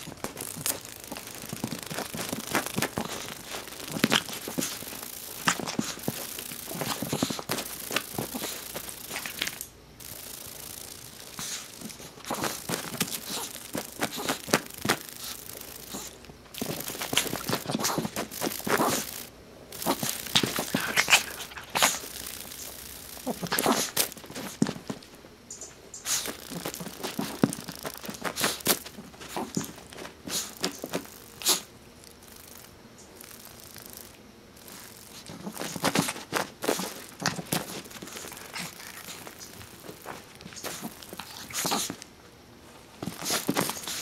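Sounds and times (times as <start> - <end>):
dog paws tapping on carpet: 0.0 - 9.6, 11.4 - 31.7, 34.7 - 42.1, 42.9 - 44.0.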